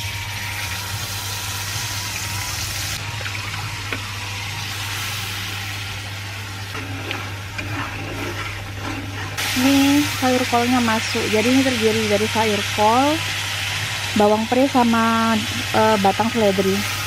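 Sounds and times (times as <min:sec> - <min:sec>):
paste sizzling in hot oil: 0:00.0 - 0:17.0.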